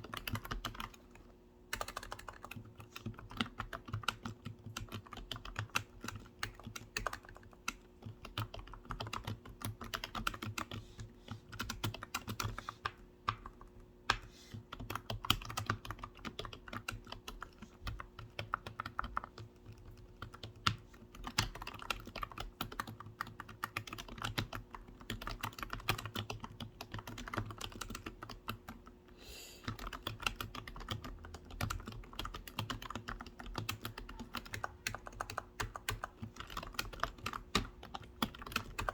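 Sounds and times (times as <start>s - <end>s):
typing on computer keyboard: 0.0s - 29.0s, 29.6s - 38.9s.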